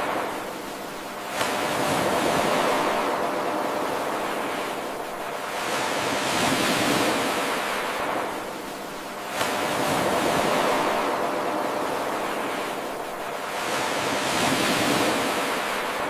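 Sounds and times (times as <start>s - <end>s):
ocean waves washing ashore: 0.0s - 16.0s.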